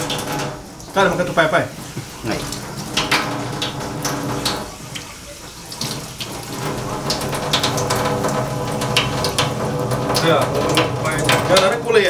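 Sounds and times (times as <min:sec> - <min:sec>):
tap running into metal sink: 0:00.0 - 0:12.0.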